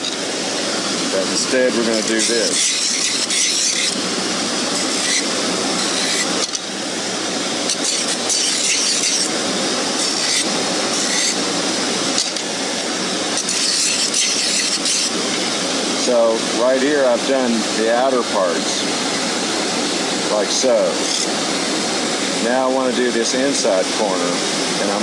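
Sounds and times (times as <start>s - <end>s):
wood on spinning sanding drum: 0.0s - 25.0s.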